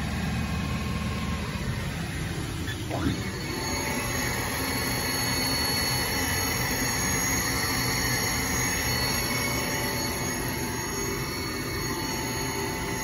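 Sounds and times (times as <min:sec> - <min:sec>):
machine running hum: 0:00.0 - 0:13.0
spindle high whine: 0:00.0 - 0:13.0.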